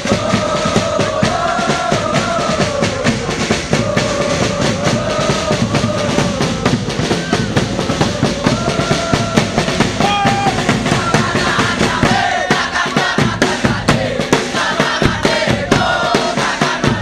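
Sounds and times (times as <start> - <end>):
crowd chanting: 0.0 - 17.0
drums beating fast rhythm: 0.0 - 17.0.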